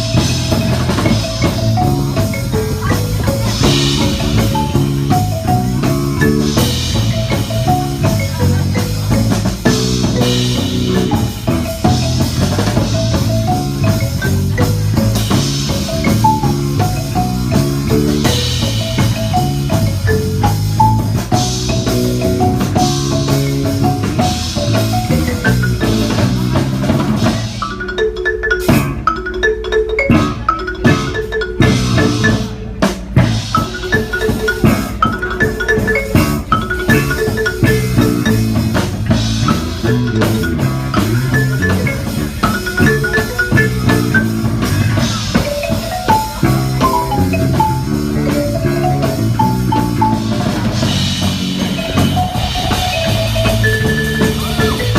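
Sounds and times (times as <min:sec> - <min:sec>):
bass line: 0:00.0 - 0:27.9, 0:28.6 - 0:29.2, 0:30.0 - 0:54.9
drums: 0:00.0 - 0:54.9
marimba playing pop music: 0:00.0 - 0:54.9.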